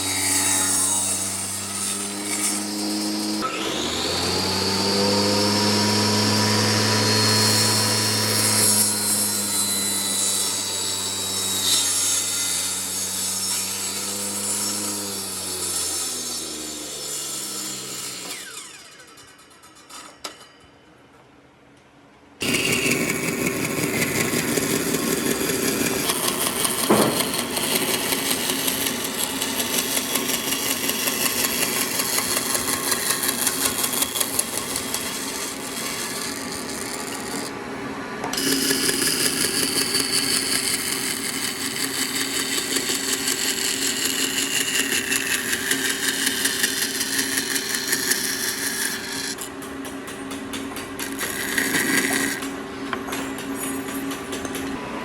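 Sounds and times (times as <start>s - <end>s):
power tool working wood: 0.0s - 19.1s, 22.4s - 49.8s, 50.4s - 52.6s.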